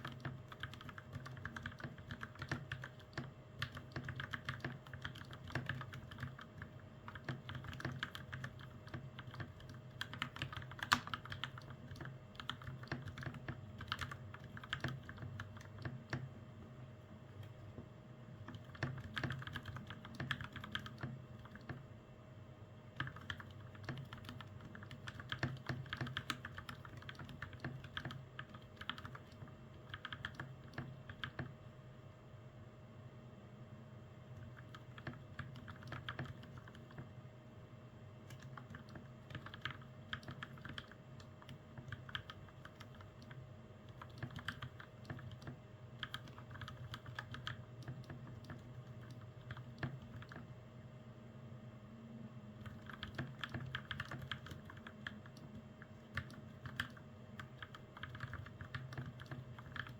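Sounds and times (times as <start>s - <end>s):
fast typing on mechanical keyboard: 0.0s - 16.3s, 18.4s - 21.8s, 23.0s - 31.5s, 34.4s - 37.1s, 38.3s - 50.5s, 52.6s - 59.9s
low steady hum: 0.0s - 59.9s.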